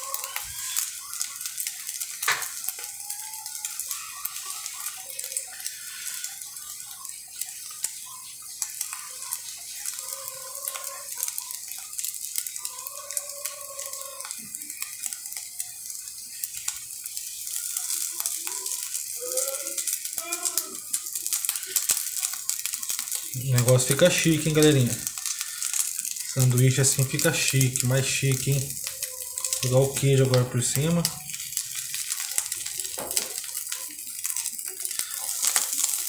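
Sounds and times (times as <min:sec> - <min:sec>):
egg sizzling in a frying pan: 0:00.0 - 0:36.0.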